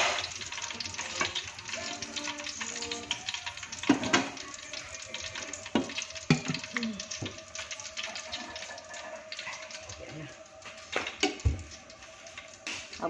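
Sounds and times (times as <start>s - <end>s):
milk simmering in a frying pan: 0.0s - 13.0s.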